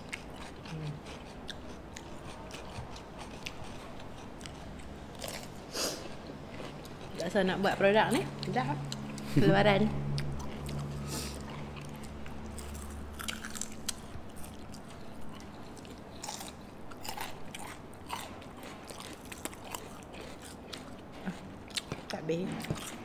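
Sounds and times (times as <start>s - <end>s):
chewing crunchy food: 0.0s - 9.4s, 10.0s - 23.0s.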